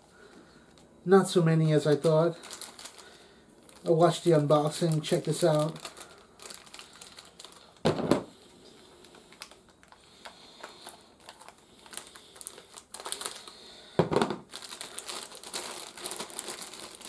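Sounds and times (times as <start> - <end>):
packaging rustling: 1.8 - 17.0.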